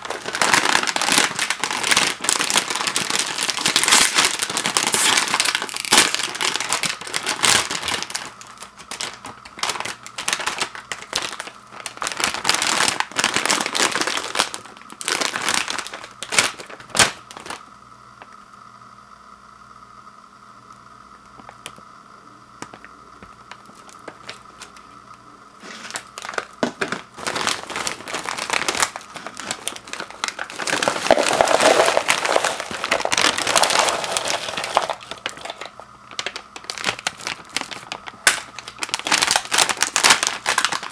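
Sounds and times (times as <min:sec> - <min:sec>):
chips rattling into plastic bowl: 0:00.0 - 0:17.6, 0:25.6 - 0:40.9
plastic snack bag crinkling: 0:00.0 - 0:17.6, 0:22.6 - 0:40.9.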